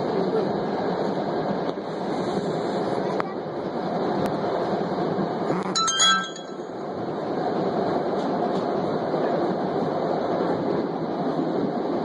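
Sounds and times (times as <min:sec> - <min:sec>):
train rumble from inside: 0:00.0 - 0:12.0.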